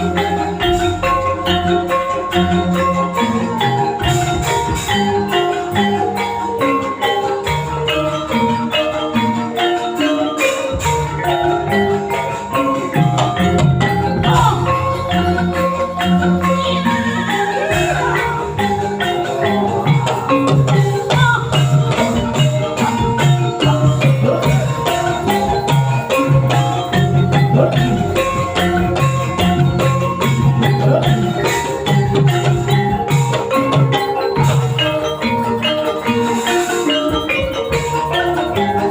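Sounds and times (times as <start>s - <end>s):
drum strokes: 0.0s - 38.9s
metal-keyed instruments melody: 0.0s - 38.9s.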